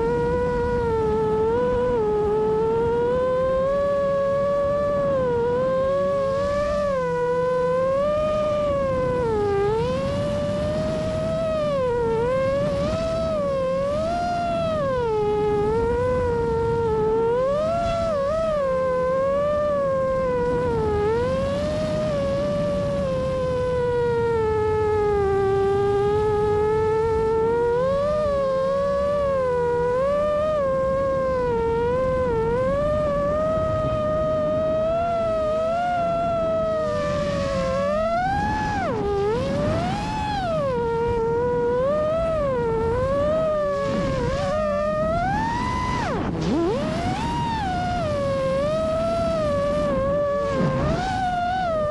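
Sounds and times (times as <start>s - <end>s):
quadcopter motors whining: 0.0s - 51.9s.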